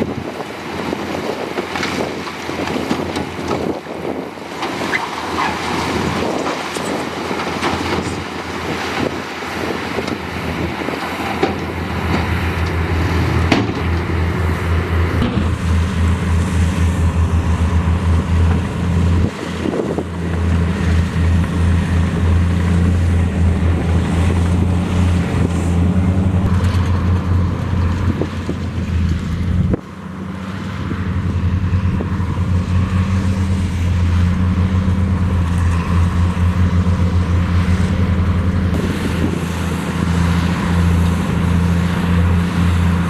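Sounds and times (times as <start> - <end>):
heavy diesel engine running: 0.0 - 43.0.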